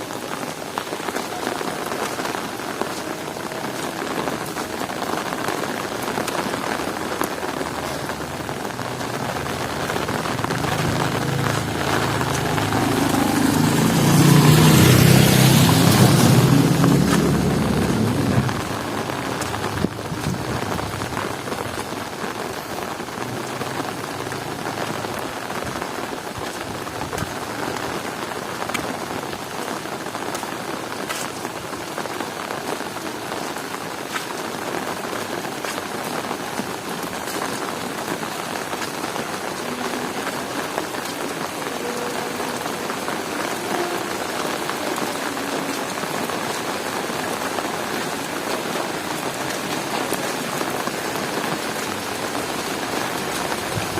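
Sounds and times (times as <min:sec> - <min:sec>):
sharp raindrop taps: 0:00.0 - 0:13.6, 0:14.8 - 0:53.9
heavy rain falling: 0:00.0 - 0:53.9.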